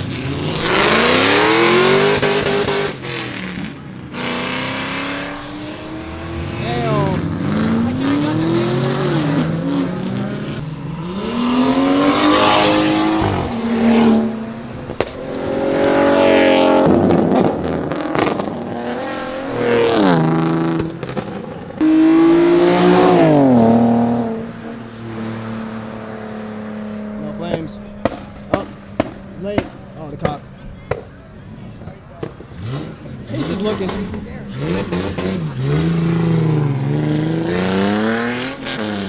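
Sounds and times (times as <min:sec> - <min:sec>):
car engines revving: 0:00.0 - 0:39.0
engine crackling: 0:00.0 - 0:39.0.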